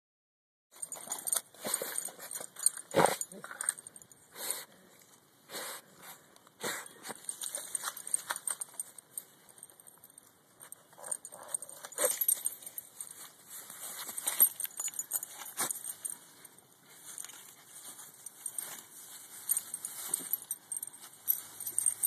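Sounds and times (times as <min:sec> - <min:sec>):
collar tags jingling: 0:00.7 - 0:04.6, 0:06.8 - 0:22.0.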